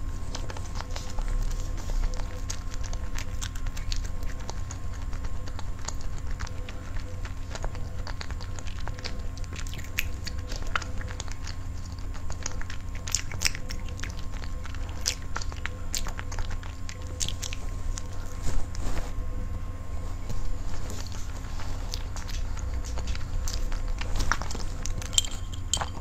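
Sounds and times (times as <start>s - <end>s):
low steady hum: 0.0s - 26.0s
person chewing cake: 0.0s - 26.0s.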